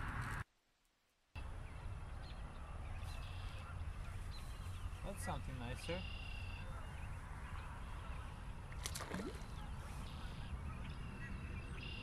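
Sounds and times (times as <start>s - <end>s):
birds singing: 1.4s - 12.0s
high trilling birdsong: 1.4s - 12.0s.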